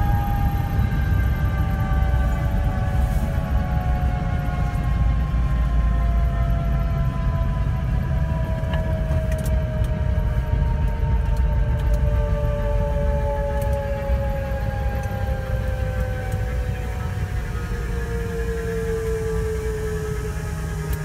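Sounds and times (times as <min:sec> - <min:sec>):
helicopter rotor rumble: 0:00.0 - 0:21.0
whining tones falling in pitch: 0:00.0 - 0:21.0.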